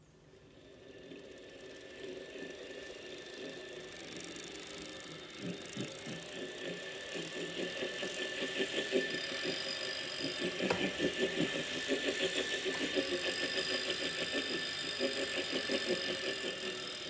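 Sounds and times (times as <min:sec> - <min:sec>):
steady thin whine: 0:00.0 - 0:17.0
pulsing grinding noise: 0:00.3 - 0:17.0.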